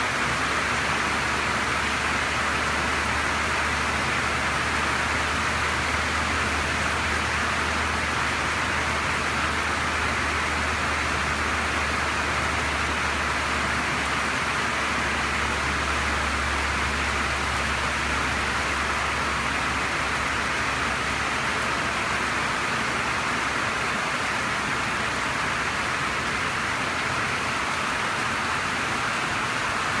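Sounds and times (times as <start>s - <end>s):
heavy rain on a roof: 0.0s - 30.0s.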